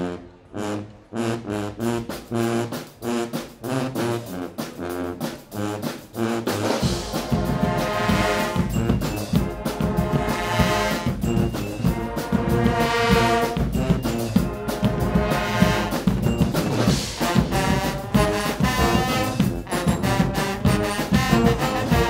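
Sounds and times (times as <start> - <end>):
brass band playing loudly: 0.0 - 22.0
driving percussion beat: 2.0 - 22.0.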